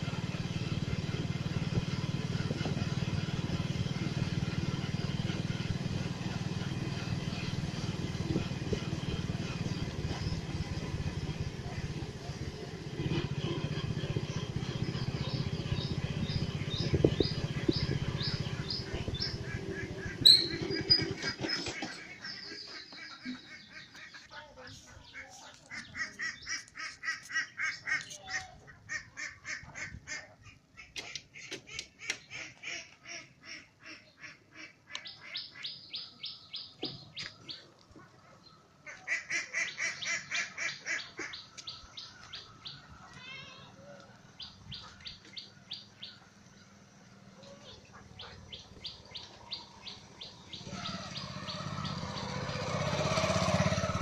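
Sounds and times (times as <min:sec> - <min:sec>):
passing vehicle engine rumble: 0:00.0 - 0:28.1, 0:35.3 - 0:54.0
birds calling: 0:00.2 - 0:54.0.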